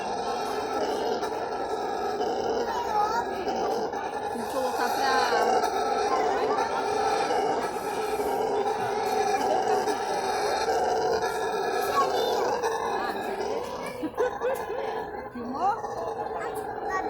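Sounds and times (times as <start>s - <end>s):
howler monkey roaring: 0.0s - 17.0s.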